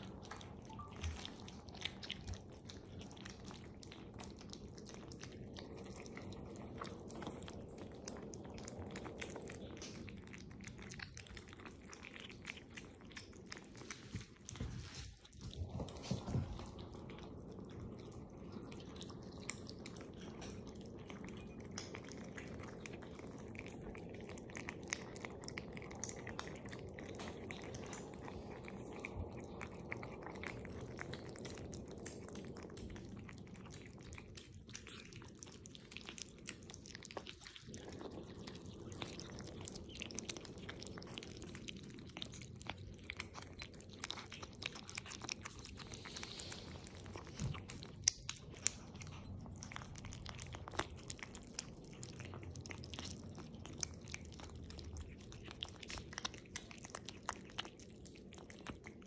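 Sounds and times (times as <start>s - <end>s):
kittens eating wet food: 0.0s - 59.0s.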